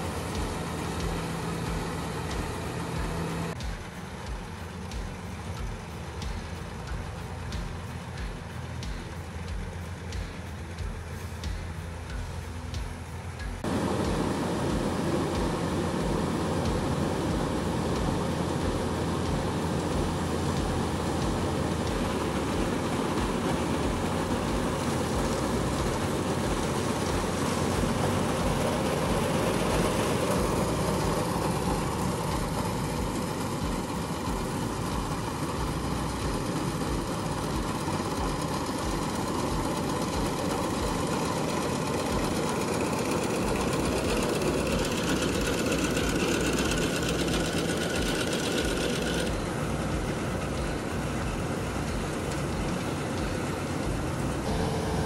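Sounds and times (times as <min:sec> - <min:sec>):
diesel machinery running: 0:00.0 - 0:55.0.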